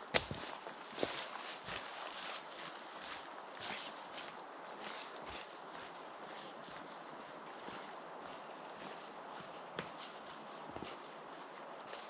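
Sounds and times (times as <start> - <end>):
footsteps on wet dirt path: 0.0 - 12.0.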